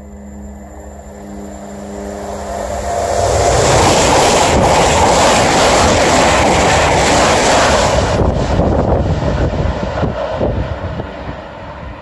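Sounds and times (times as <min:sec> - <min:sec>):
high-speed train rushing past: 0:00.0 - 0:12.0.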